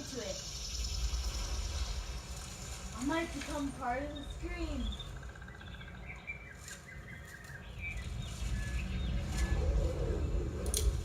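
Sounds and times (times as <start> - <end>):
birds chirping over speakers: 0.0 - 11.0
low bass rumble: 0.2 - 6.6, 7.2 - 11.0.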